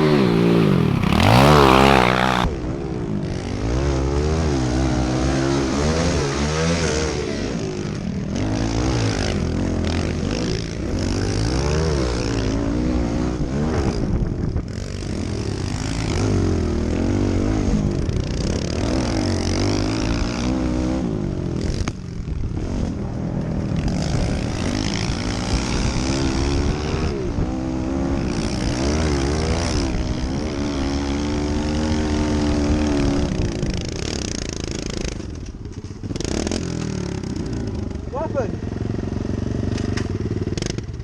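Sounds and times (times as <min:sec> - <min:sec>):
pit bike engines revving: 0:00.0 - 0:41.0.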